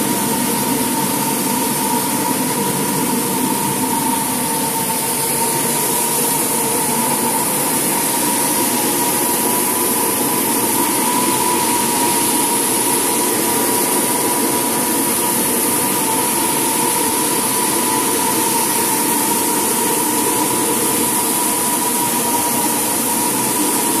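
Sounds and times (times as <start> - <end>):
floor-sanding machines whining: 0.0 - 24.0
dust-extraction vacuums hissing: 0.1 - 24.0.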